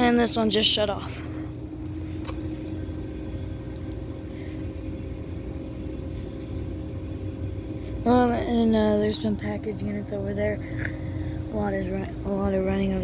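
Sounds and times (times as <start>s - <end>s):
air conditioning units humming: 0.0s - 13.0s
faint steady tones: 0.0s - 13.0s.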